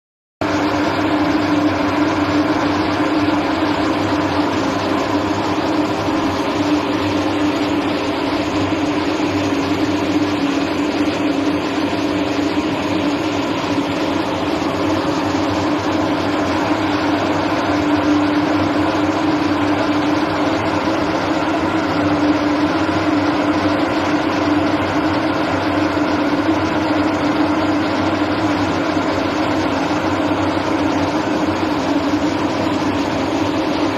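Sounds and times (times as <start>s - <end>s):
constant hum: 0.4s - 33.9s
mist cannon fan rushing: 0.4s - 33.9s.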